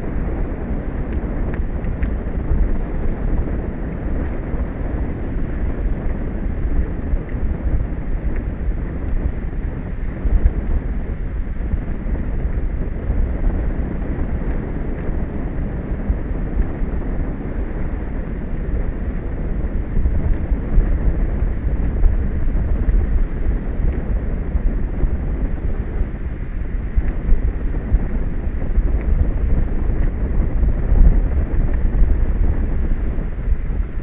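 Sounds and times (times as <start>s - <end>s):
wind on microphone: 0.0s - 34.0s.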